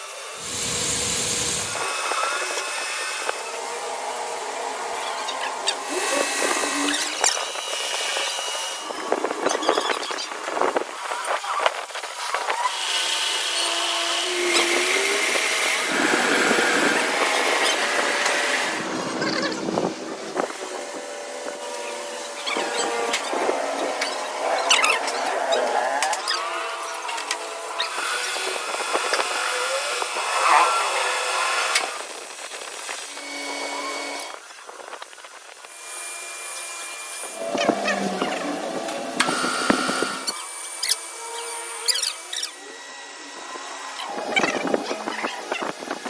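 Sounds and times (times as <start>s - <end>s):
power tool running with whine: 0.0s - 46.0s.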